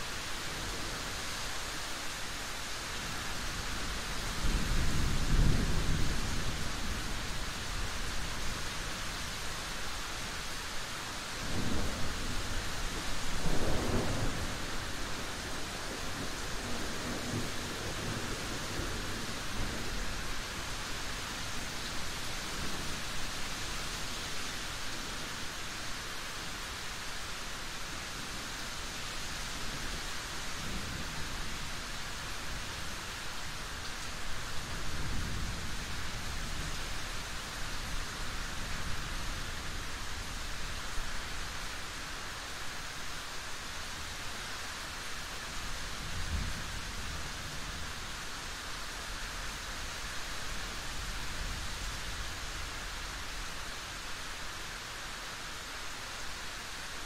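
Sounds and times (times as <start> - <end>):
dense rain falling: 0.0 - 57.0.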